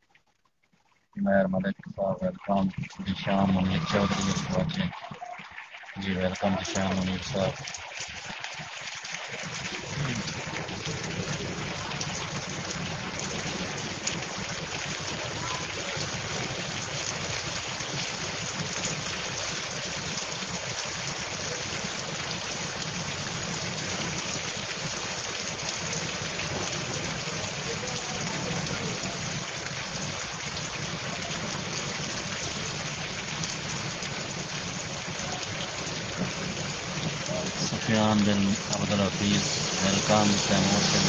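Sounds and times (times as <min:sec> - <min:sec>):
heavy rain on road and puddles: 0:06.0 - 0:41.0.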